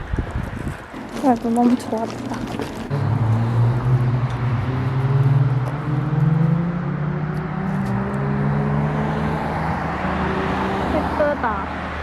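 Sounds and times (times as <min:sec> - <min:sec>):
engine drone: 0:02.0 - 0:11.7.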